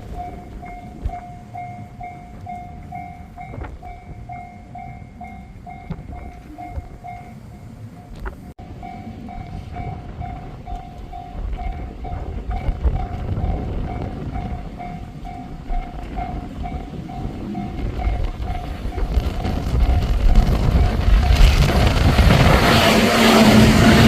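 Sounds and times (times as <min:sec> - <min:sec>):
level-crossing warning bell ringing: 0:00.0 - 0:24.0.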